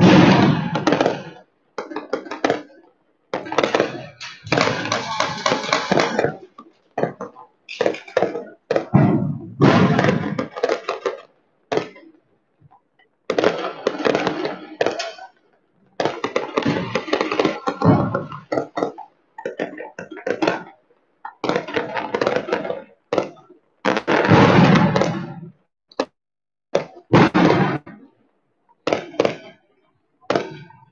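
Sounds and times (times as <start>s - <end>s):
crackling bursts: 0.0s - 26.1s, 26.7s - 28.2s, 28.8s - 30.9s
fireworks and firecrackers banging: 0.0s - 28.2s, 28.8s - 30.9s.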